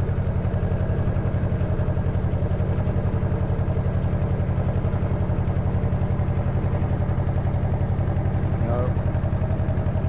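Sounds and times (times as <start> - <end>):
boat engine chugging: 0.0 - 10.0.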